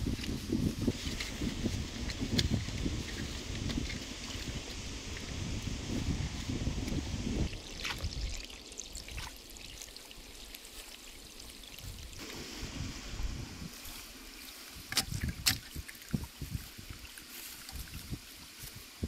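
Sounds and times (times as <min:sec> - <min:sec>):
water trickling along bamboo: 0:00.1 - 0:05.7, 0:07.4 - 0:12.2, 0:13.8 - 0:19.0.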